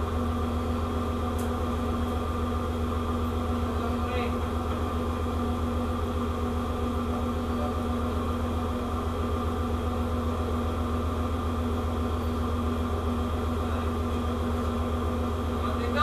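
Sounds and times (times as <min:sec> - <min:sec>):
ship machinery humming: 0:00.0 - 0:16.0.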